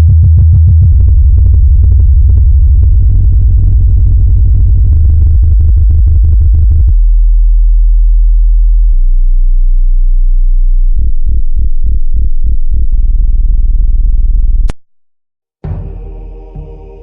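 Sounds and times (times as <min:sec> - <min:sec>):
deep synthesized tones: 0:00.0 - 0:14.7, 0:15.6 - 0:17.0
pulsing low tone: 0:00.0 - 0:14.7.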